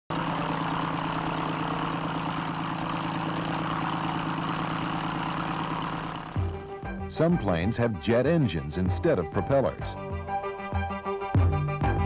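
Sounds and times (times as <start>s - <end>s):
aircraft engine drone: 0.1s - 11.8s.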